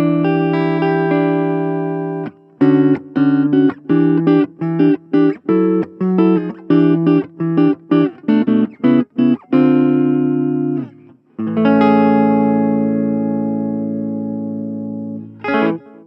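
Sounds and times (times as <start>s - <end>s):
clean electric guitar chords: 0.0s - 16.0s.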